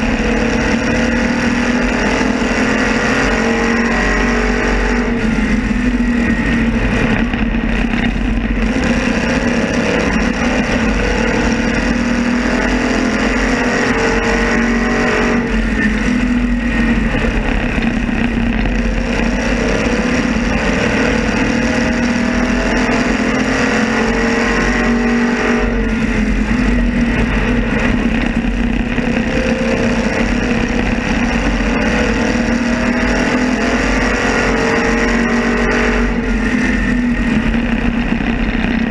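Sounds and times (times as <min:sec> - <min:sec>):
other car engines nearby: 0:00.0 - 0:38.9
race car engine accelerating: 0:00.0 - 0:38.9.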